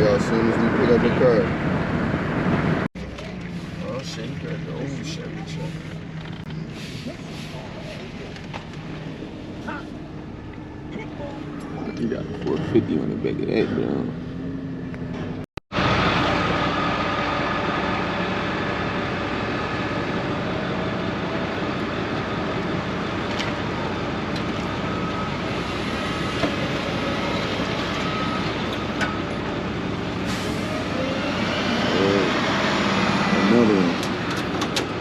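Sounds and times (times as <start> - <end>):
vehicle road noise: 0.0 - 35.0.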